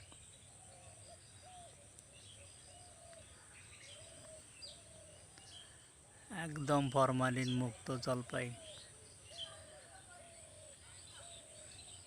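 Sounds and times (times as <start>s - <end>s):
low bird calls: 0.0s - 12.0s.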